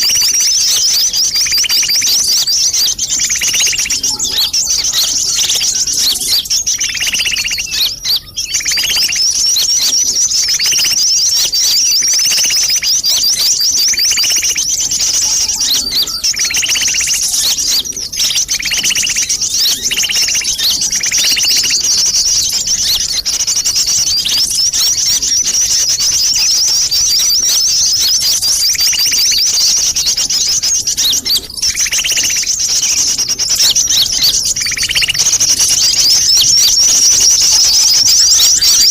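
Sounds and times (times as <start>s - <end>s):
lower bird notes: 0.0s - 38.9s
sunbirds twittering: 0.0s - 38.9s.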